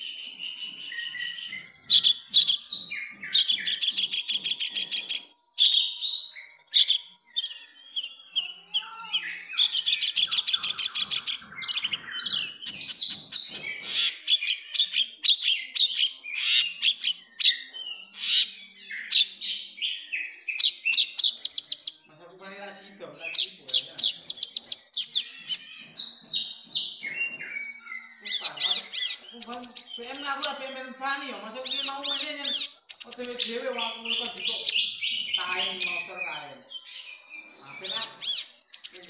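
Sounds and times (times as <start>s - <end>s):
bird chattering song: 0.0s - 39.0s.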